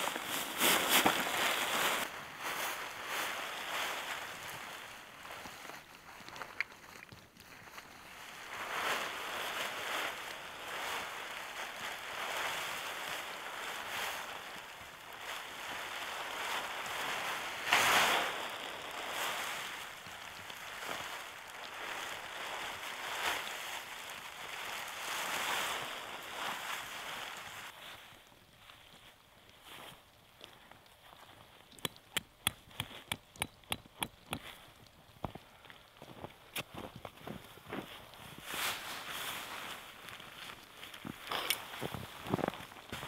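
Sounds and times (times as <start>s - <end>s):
tent fabric rustling and flapping: 0.0s - 33.7s, 34.4s - 43.0s.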